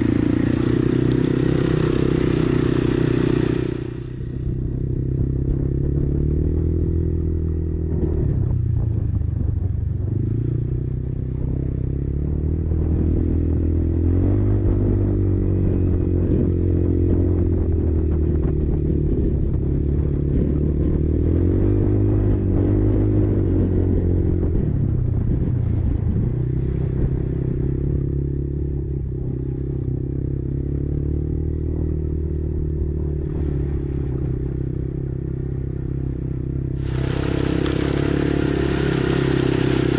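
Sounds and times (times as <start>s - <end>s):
quad engine revving under load: 0.0s - 8.4s, 10.1s - 25.4s, 26.0s - 39.9s.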